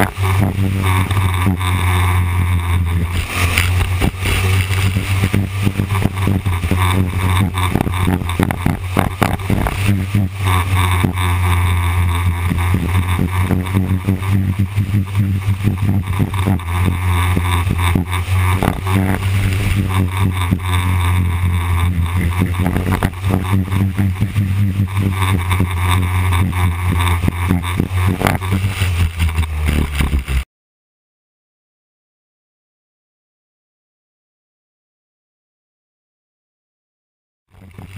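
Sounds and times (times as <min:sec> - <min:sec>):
racing car engine: 0:00.0 - 0:30.4, 0:37.5 - 0:37.9
bumps and buffets: 0:00.0 - 0:30.5, 0:37.5 - 0:37.9.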